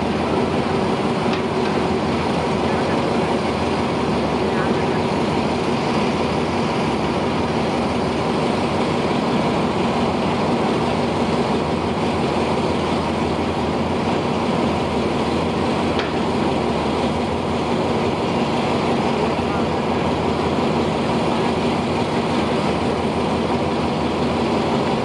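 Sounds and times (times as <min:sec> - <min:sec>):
diesel locomotive engine idling: 0:00.0 - 0:25.0.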